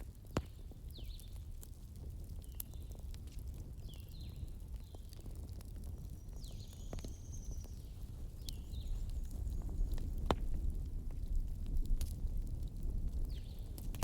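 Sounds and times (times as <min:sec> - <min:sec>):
bonfire crackling: 0:00.0 - 0:14.0
burning wood popping: 0:00.0 - 0:14.0.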